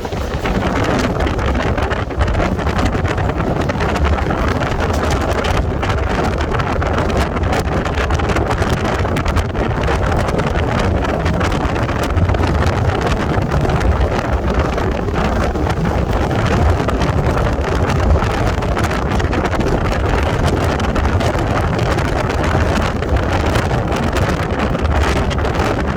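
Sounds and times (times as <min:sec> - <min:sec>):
moving train rumble: 0:00.0 - 0:25.9
wind buffeting microphone: 0:00.0 - 0:25.9.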